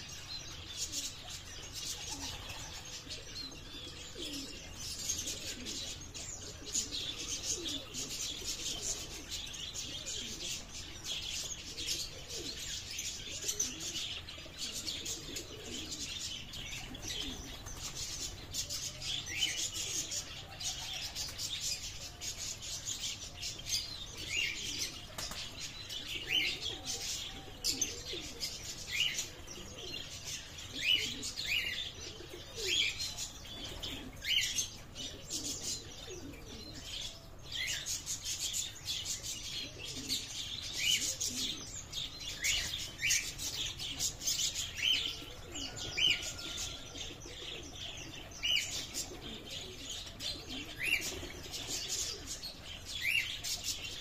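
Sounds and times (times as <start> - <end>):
birds chirping: 0.0 - 54.0
pigeons cooing: 0.0 - 54.0.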